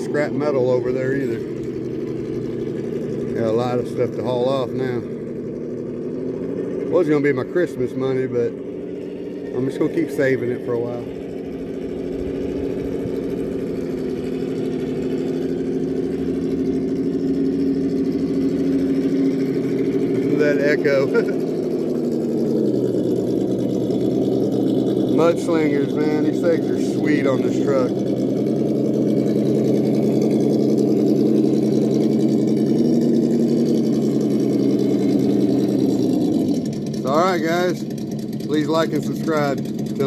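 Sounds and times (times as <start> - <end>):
steady motor hum: 0.0 - 40.0.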